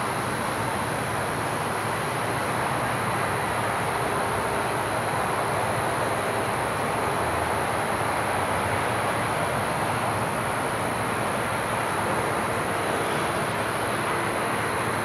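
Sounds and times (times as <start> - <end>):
continuous rushing noise: 0.0 - 15.0.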